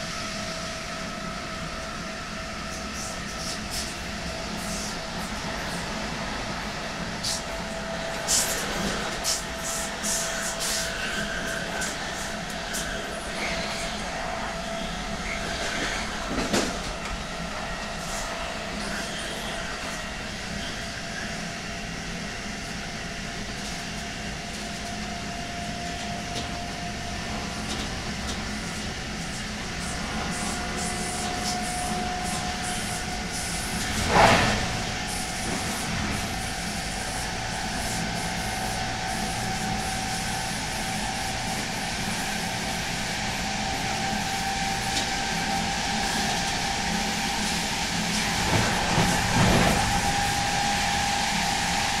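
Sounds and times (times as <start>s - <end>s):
traction inverter whine: 0.0s - 52.0s
train rumble: 0.0s - 52.0s.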